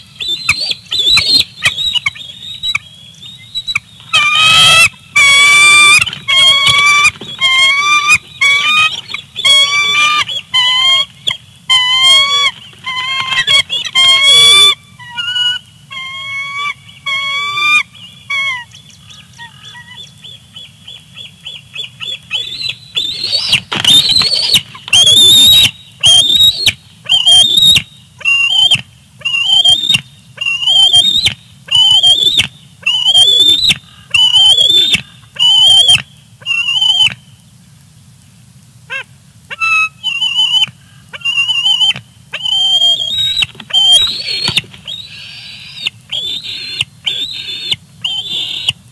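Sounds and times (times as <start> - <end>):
eagles calling: 0.0 - 37.3, 38.9 - 48.9.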